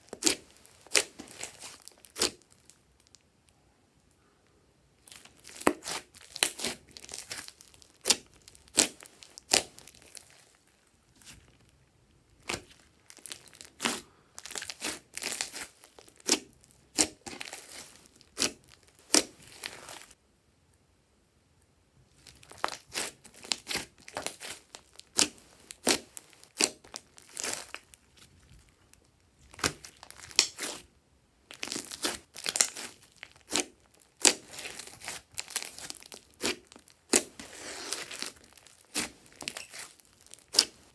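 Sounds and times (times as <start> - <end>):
slime squished by hand: 0.0 - 2.7, 5.1 - 10.6, 12.4 - 20.2, 22.2 - 28.3, 29.4 - 30.9, 31.5 - 40.9.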